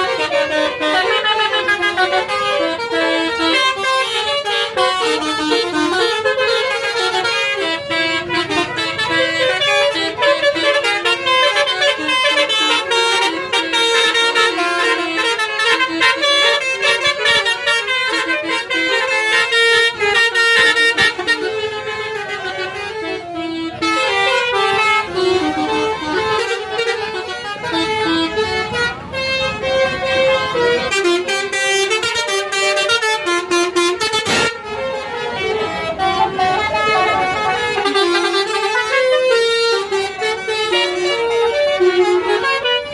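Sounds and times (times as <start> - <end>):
musical bus horn tune: 0.0 - 42.9.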